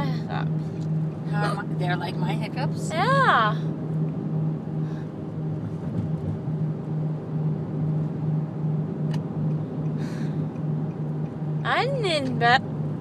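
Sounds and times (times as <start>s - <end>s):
car road and engine drone: 0.0s - 13.0s.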